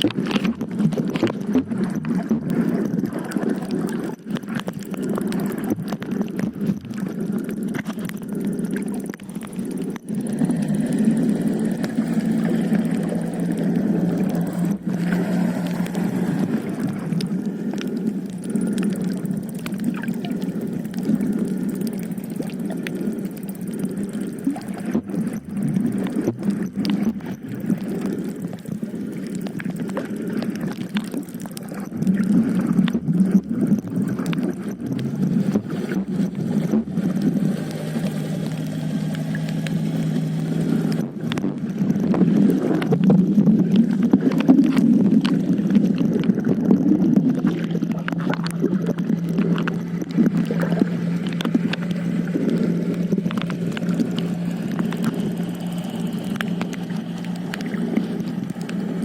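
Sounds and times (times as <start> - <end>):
boat engine running: 0.0 - 59.0
churning water: 0.0 - 59.0
wind: 0.0 - 59.0.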